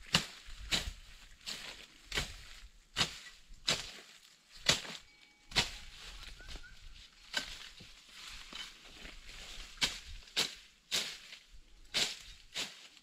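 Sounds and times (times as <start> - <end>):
branches and leaves rustling: 0.0 - 13.0.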